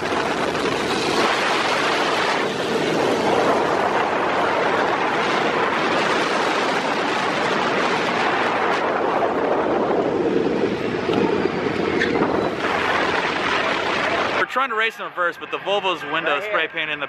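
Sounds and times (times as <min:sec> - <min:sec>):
wind on microphone: 0:00.0 - 0:14.4.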